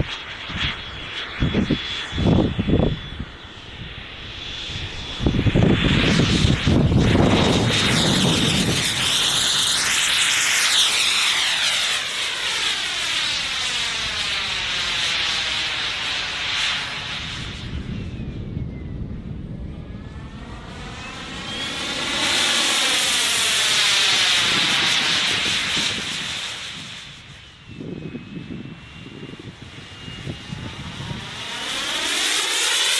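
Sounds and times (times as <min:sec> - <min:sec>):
wind buffeting microphone: 0:00.0 - 0:11.6, 0:13.2 - 0:32.3
model jet turbine whine: 0:00.0 - 0:32.9.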